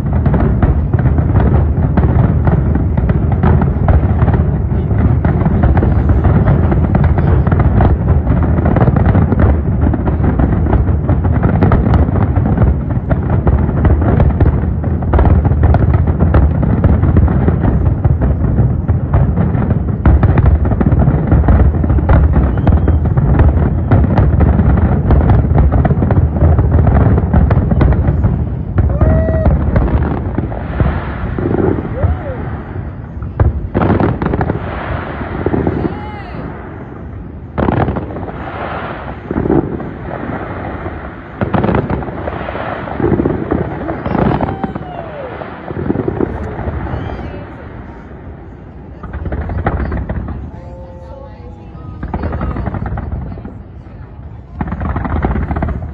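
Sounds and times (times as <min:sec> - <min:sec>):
fireworks booming and crackling: 0:00.0 - 0:55.9.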